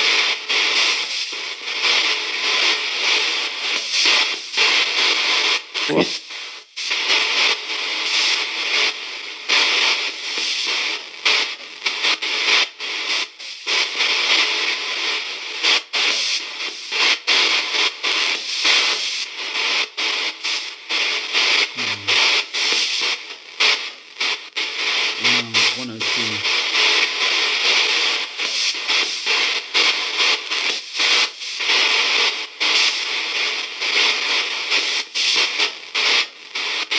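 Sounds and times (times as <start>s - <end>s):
radio static hiss: 0.0s - 36.9s.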